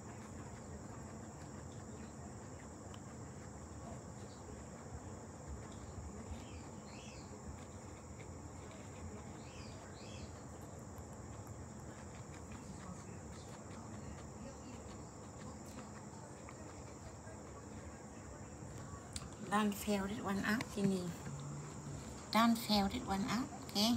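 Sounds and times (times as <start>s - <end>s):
guinea pig chewing: 0.0s - 23.9s
faint chirps: 0.5s - 23.9s.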